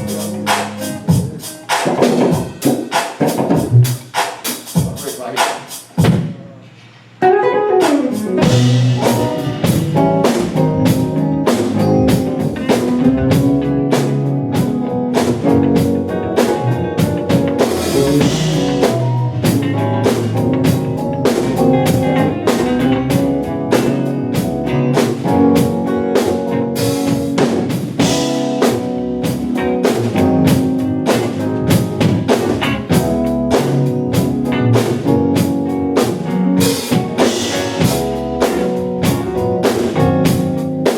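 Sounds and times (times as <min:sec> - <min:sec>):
band playing a groove: 0:00.0 - 0:40.9.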